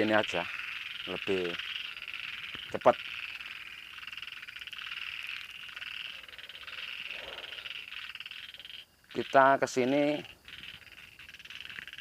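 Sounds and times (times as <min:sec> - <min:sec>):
frogs calling: 0:00.0 - 0:12.0.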